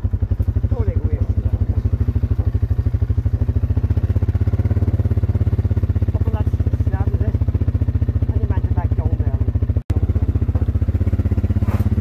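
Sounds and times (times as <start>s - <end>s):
quad bike engine chugging: 0.0s - 12.0s.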